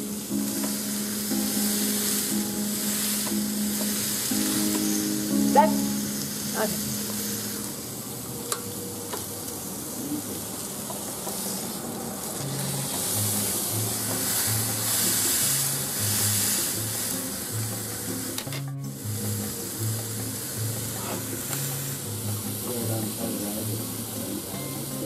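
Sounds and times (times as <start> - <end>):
steak sizzling on grill: 0.0 - 25.0.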